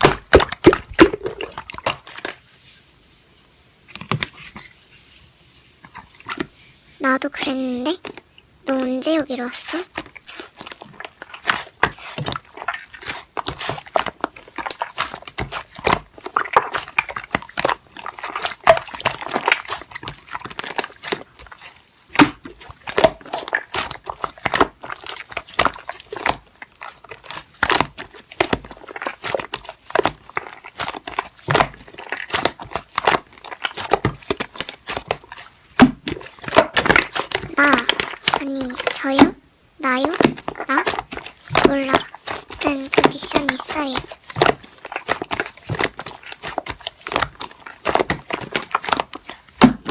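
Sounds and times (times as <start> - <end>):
slime squished by hand: 0.0 - 2.4, 7.3 - 49.9
sticky clicks and bubble pops: 0.0 - 2.4, 9.4 - 49.9.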